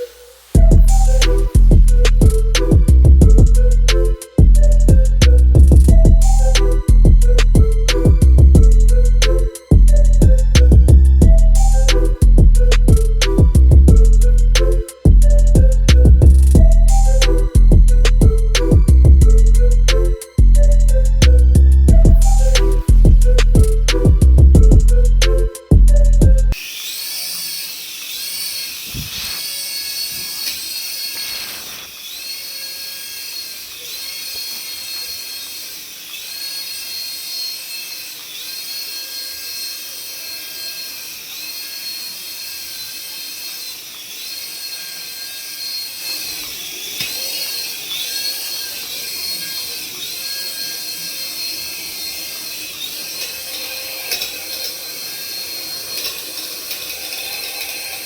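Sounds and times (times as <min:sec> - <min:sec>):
toy electric motor whine: 0:00.0 - 0:58.0.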